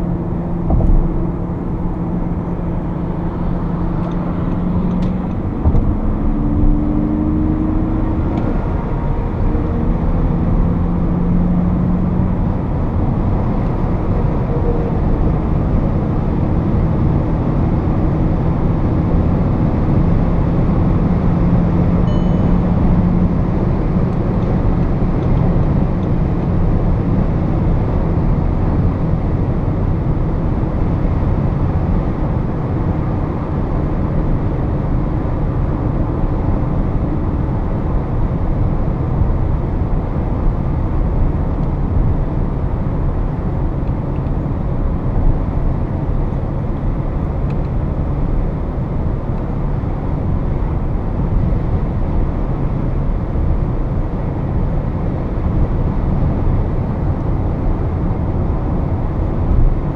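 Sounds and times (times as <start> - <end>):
engine drone: 0.0 - 59.9.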